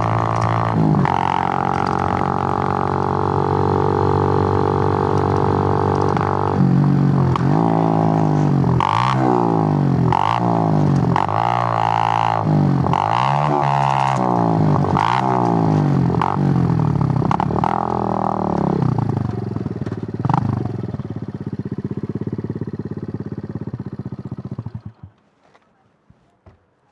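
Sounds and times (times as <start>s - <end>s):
motorcycle engine revving and idling: 0.0s - 25.2s.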